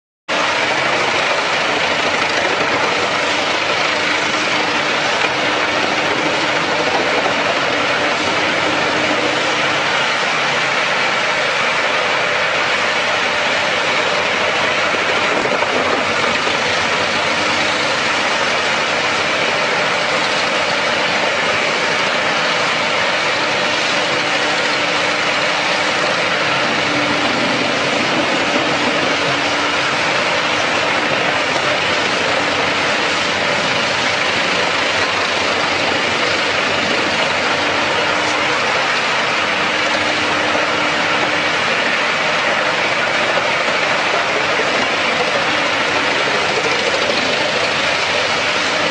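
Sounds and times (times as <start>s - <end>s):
wood chipper running: 0.3s - 48.9s.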